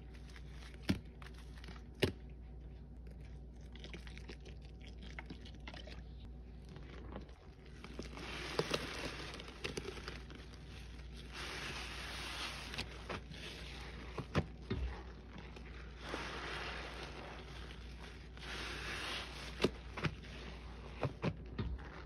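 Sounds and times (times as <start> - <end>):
sponge squelching and sloshing: 0.0 - 22.0.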